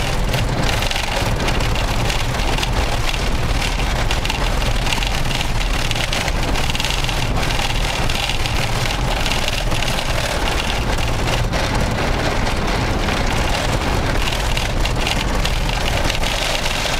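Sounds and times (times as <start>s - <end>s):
low rumble of tyres and engine: 0.0s - 16.9s
vehicle body rattling: 0.0s - 16.9s.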